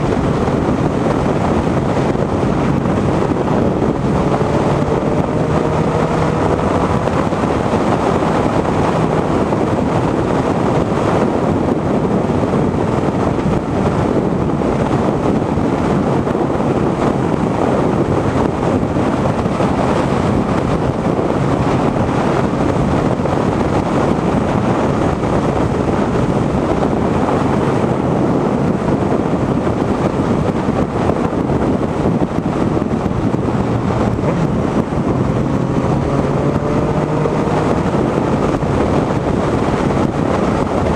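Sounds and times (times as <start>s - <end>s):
motorcycle engine drone: 0.0s - 40.9s
wind noise on microphone: 0.0s - 40.9s.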